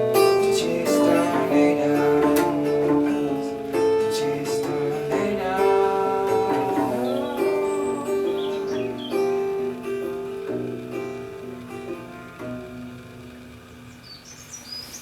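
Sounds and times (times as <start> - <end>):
guitar notes and chords: 0.0 - 14.5.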